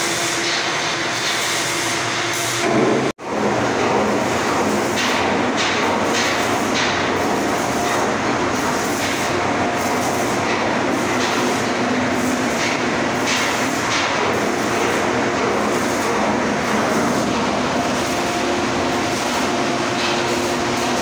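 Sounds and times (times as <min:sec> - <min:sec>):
pipe welding noise: 0:00.0 - 0:21.0.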